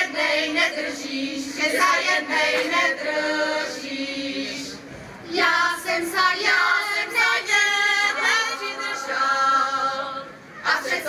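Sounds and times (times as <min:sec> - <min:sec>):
women's choir singing a cappella: 0:00.0 - 0:11.0.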